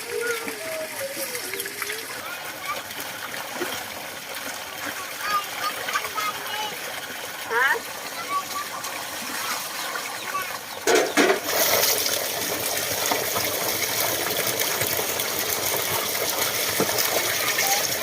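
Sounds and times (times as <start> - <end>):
running water splashing: 0.0 - 18.0.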